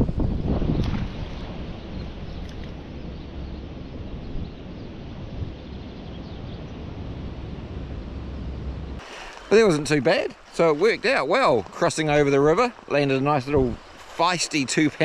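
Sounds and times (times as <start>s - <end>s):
running river water: 0.0s - 5.0s, 6.6s - 15.0s
wind rumble on microphone: 0.0s - 15.0s.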